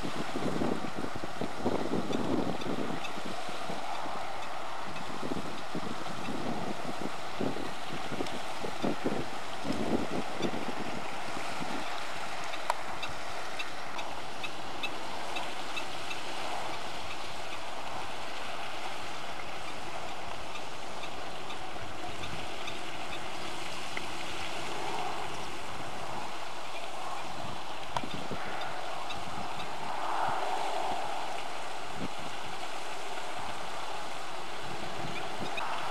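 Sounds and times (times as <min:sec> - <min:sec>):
wind and water rushing: 0:00.0 - 0:35.9.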